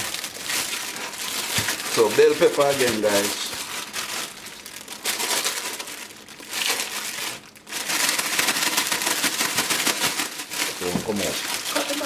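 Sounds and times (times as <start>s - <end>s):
crinkly rustling and crackling: 0.0s - 12.0s.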